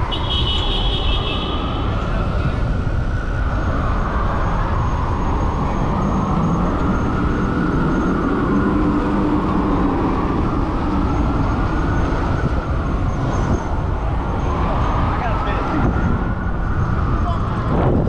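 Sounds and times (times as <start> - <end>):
wind rushing on microphone: 0.0 - 18.0.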